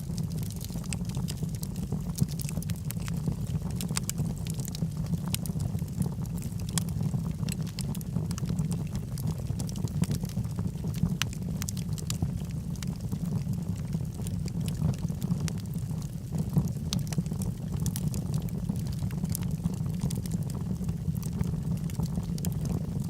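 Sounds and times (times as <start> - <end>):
logs crackling and popping: 0.0 - 23.0
wood fire flames rumbling: 0.0 - 23.0.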